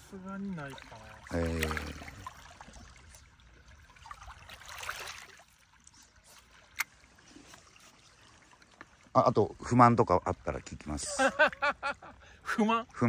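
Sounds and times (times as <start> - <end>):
small waves lapping: 0.0 - 13.0.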